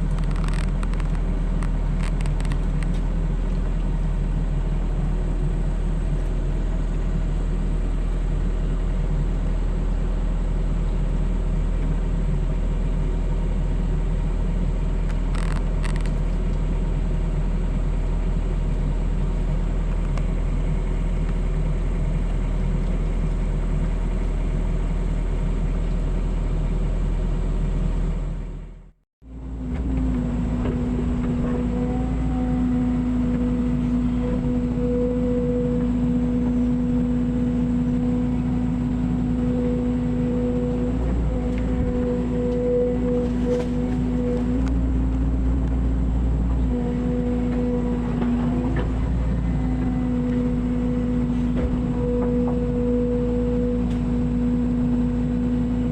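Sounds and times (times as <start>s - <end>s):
excavator engine rumbling: 0.0s - 55.9s.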